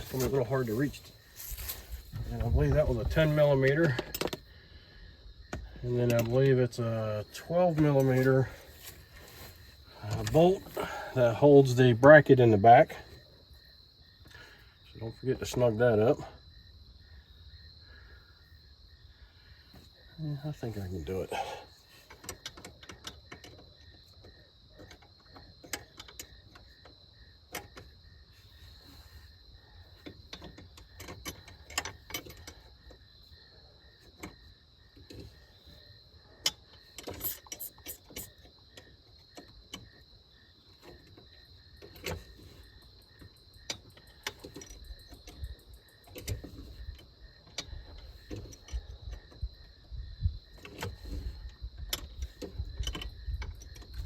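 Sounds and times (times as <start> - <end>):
crickets chirring: 0.0 - 54.0.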